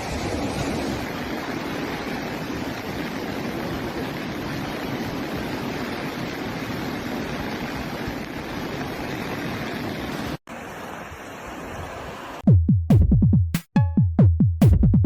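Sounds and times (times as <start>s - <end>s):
floodwater rushing: 0.0s - 12.4s.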